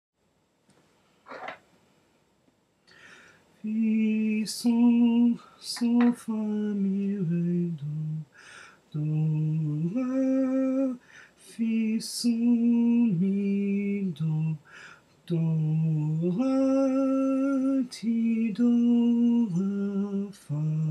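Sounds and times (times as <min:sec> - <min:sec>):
man singing solfege exercise: 0:03.6 - 0:20.9.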